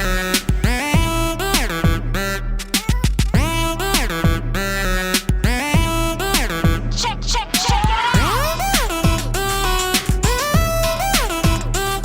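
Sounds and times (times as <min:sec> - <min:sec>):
electronic music with synth: 0:00.0 - 0:12.0.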